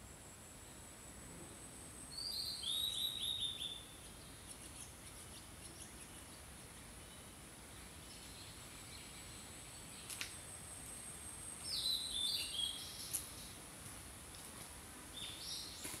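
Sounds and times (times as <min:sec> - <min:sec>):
songbird singing: 0:00.0 - 0:13.7, 0:14.3 - 0:16.0
steady high-pitched hiss: 0:00.0 - 0:16.0.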